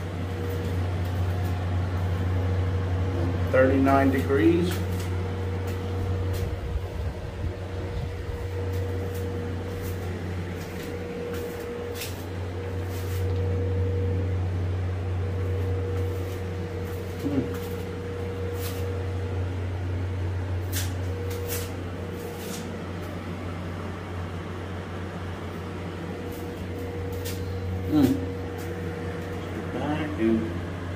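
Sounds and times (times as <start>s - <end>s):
air conditioner humming: 0.0s - 30.9s.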